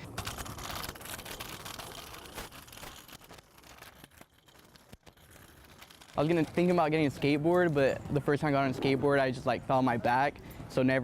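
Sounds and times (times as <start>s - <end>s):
scooter wheels rolling on pavement: 0.0s - 11.0s.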